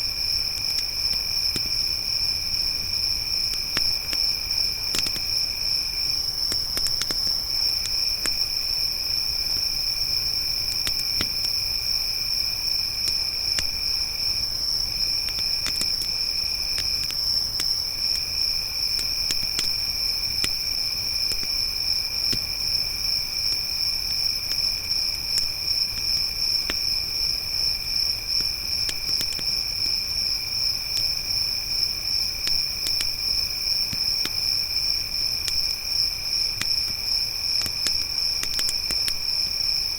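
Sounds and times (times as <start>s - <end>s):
crickets trilling: 0.0s - 39.9s
campfire crackling and popping: 0.4s - 8.9s, 9.5s - 11.7s, 12.6s - 21.6s, 22.2s - 27.6s, 28.3s - 30.0s, 32.2s - 39.7s.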